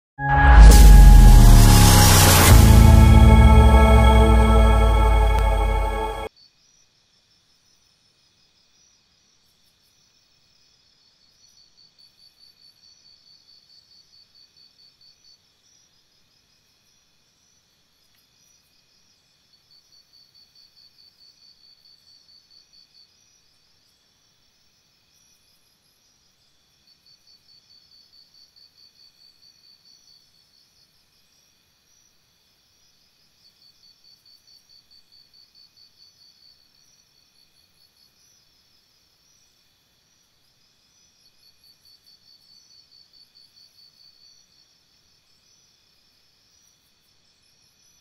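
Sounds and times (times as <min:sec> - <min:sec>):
faint steady hiss: 0:00.7 - 0:48.0.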